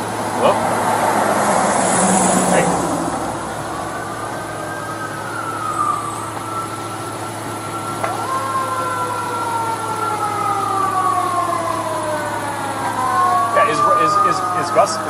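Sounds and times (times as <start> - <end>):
fire engine sirens wailing: 0.0 - 15.0.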